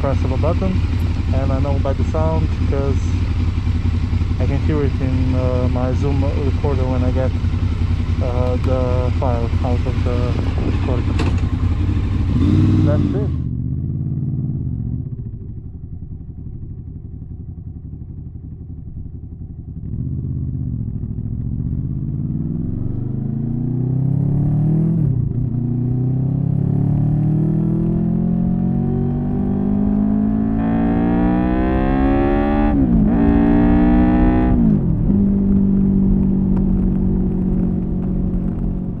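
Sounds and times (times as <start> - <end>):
motorcycle engine revving through gears: 0.0 - 15.6, 19.7 - 39.0.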